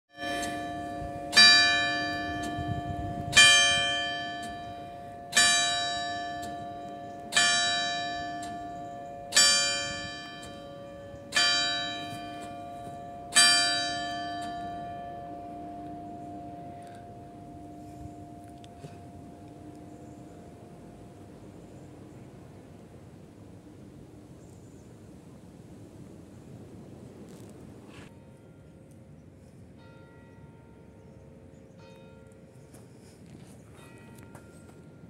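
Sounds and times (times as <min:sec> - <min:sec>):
church clock bell striking: 0:00.1 - 0:24.1, 0:28.1 - 0:35.0.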